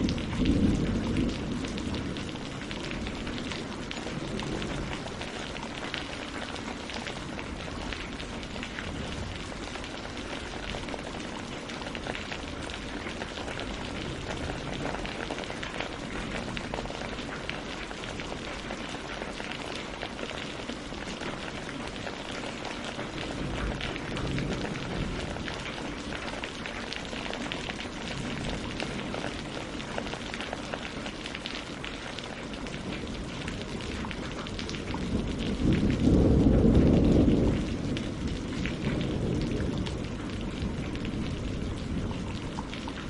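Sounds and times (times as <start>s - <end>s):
rain pattering on leaves and water: 0.0s - 43.0s.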